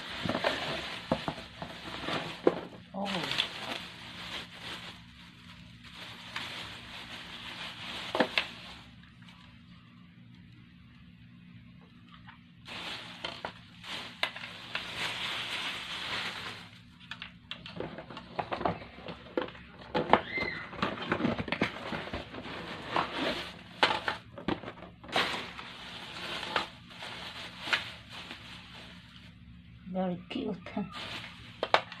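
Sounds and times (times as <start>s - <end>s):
plastic wrapping crinkling: 0.0s - 9.8s, 12.0s - 29.4s, 30.8s - 32.0s.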